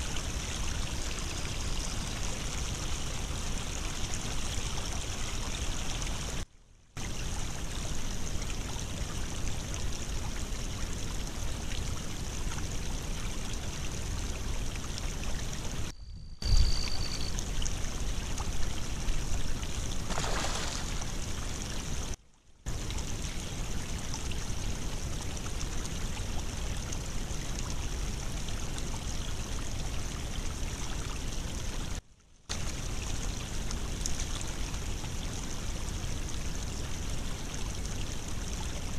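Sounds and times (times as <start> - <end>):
water rushing: 7.0 - 38.9.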